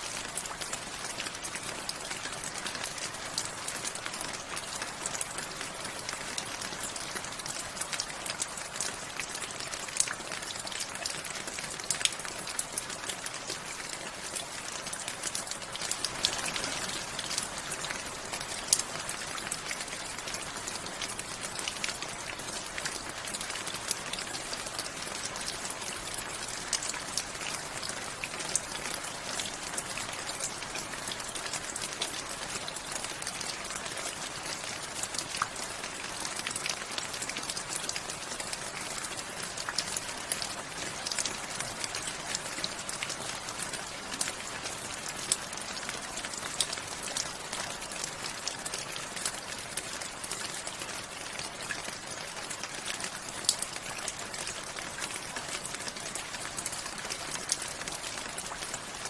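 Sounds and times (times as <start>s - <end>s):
rain ticking on hard surface: 0.0s - 59.0s.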